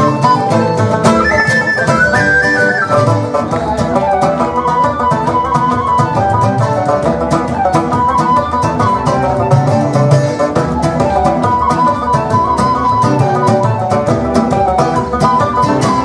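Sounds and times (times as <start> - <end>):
fast folk instrumental music: 0.0 - 16.0.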